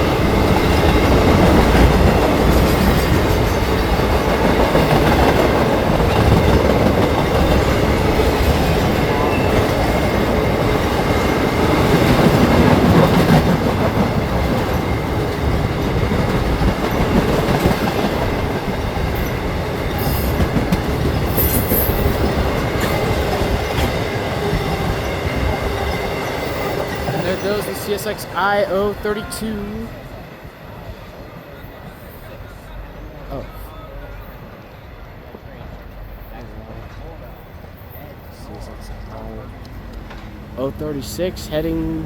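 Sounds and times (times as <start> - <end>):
clickety-clack over rail joints: 0.0 - 32.6, 35.2 - 42.0
train wheels rumbling on rails: 0.0 - 42.0.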